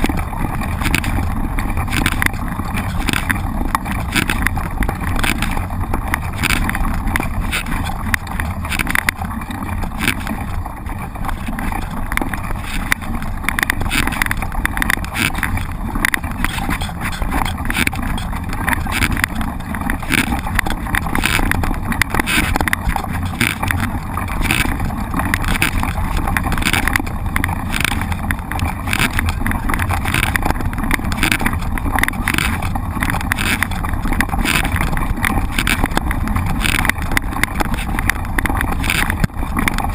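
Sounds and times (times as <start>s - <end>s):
bike clicking and rattling: 0.0s - 39.9s
wind rumble on microphone: 0.0s - 39.9s.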